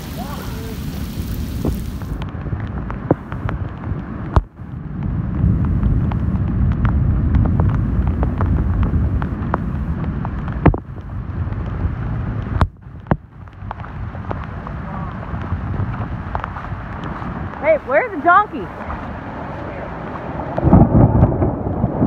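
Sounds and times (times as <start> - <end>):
heavy rain: 0.0 - 22.0
wind rumbling on microphone: 0.0 - 22.0.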